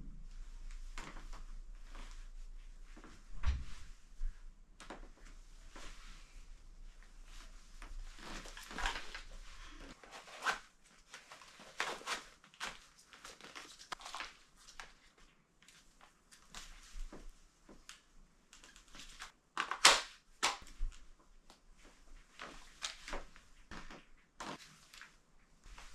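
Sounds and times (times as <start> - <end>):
rustling of things handled: 0.4 - 19.4, 20.6 - 25.9.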